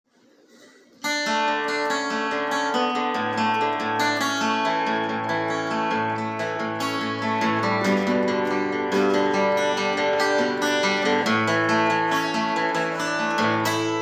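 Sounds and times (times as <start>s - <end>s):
acoustic guitar strumming chords: 1.0s - 14.0s.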